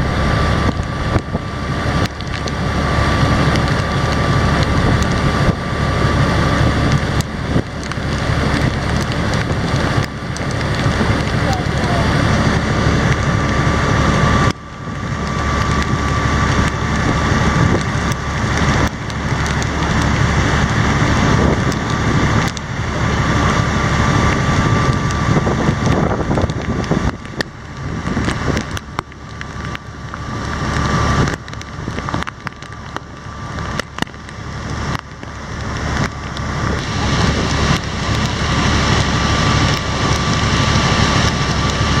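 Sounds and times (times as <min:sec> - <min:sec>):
boat engine running: 0:00.0 - 0:42.0
rain hitting water: 0:00.0 - 0:42.0
wind buffeting microphone: 0:00.0 - 0:42.0.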